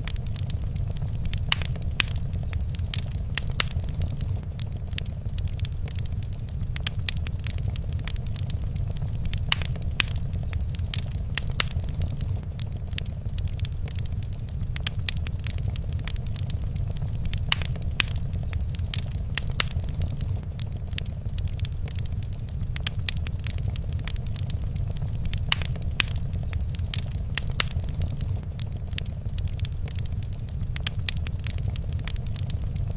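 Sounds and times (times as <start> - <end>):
low steady rumble: 0.0 - 32.9
sharp pops of fire: 0.0 - 32.9
wood fire crackling: 0.0 - 32.9.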